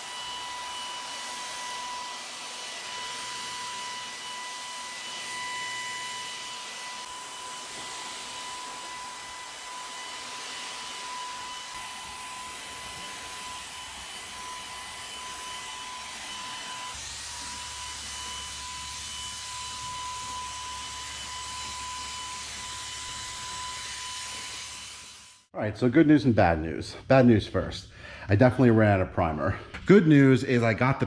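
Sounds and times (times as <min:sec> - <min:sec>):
electric paint sprayer whining: 0:00.0 - 0:25.5.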